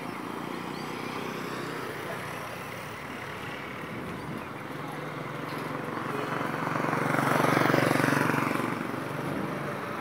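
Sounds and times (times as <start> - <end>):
roadside traffic hiss: 0.0 - 10.0.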